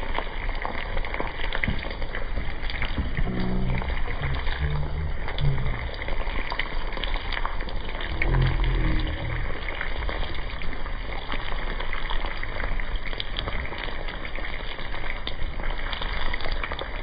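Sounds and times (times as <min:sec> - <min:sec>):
chicken sizzling on hot rock: 0:00.0 - 0:17.0
small crackles: 0:00.0 - 0:17.0.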